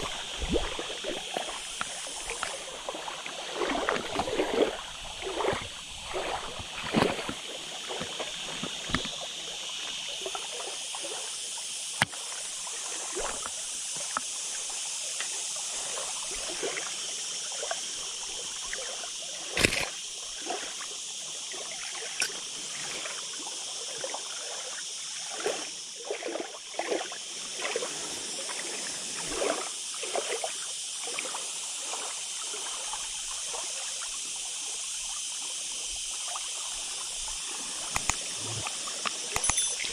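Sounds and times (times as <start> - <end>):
steady hiss: 0.0 - 39.9
water splashing and sloshing: 0.0 - 39.9.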